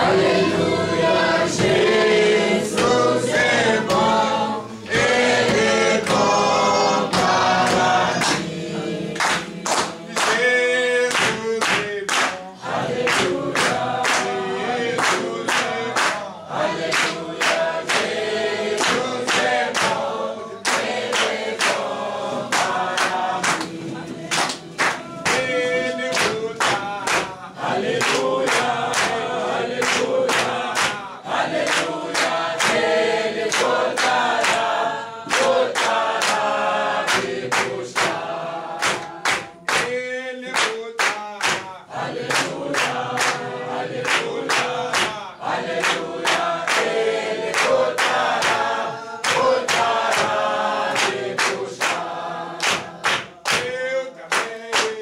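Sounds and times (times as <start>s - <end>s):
congregation singing a hymn: 0.0s - 55.0s
hand-clapping: 1.0s - 55.0s.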